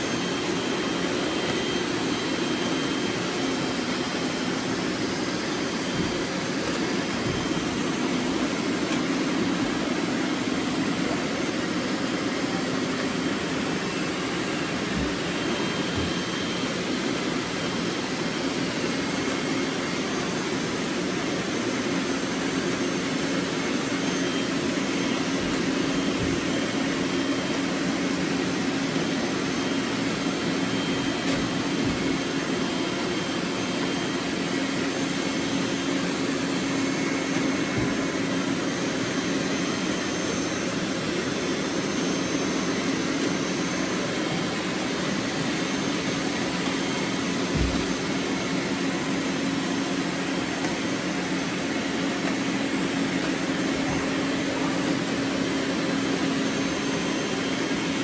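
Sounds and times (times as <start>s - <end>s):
robot vacuums whirring: 0.0s - 58.0s.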